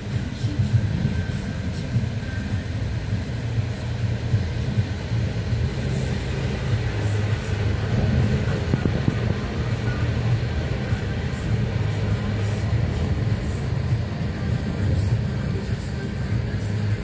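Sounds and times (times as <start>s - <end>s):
strong wind hiss: 0.0s - 17.0s
thunder rumble: 0.0s - 17.0s.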